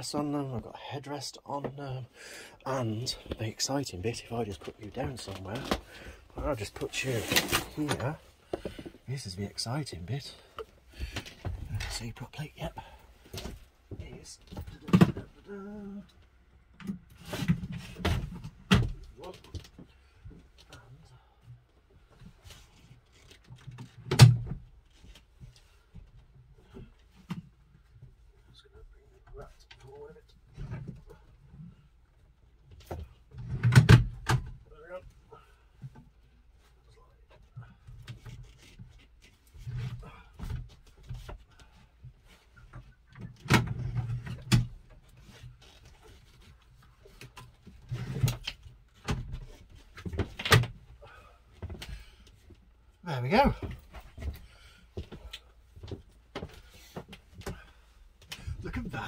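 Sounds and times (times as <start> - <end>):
faint rattles and rustling: 2.7 - 59.0.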